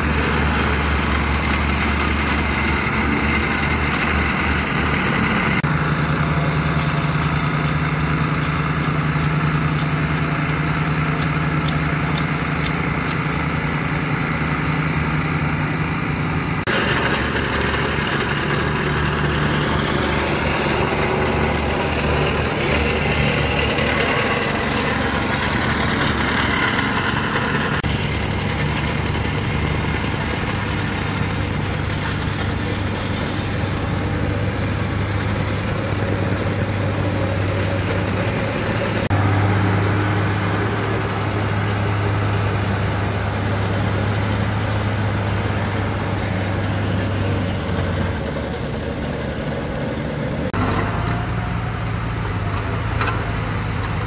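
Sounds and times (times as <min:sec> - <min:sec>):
plate compactor engine running: 0:00.0 - 0:54.0
wheel loader diesel engine: 0:00.0 - 0:54.0.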